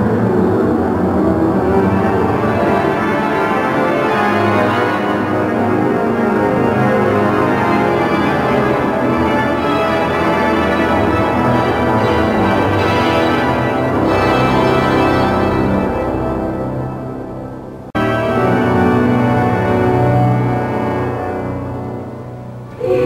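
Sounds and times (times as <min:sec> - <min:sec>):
slow organ chords: 0:00.0 - 0:23.0.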